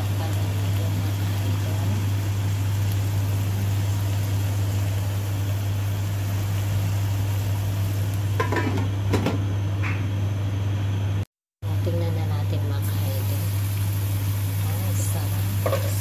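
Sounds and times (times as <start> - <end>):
prawns sizzling in a wok: 0.0 - 9.1, 11.6 - 16.0.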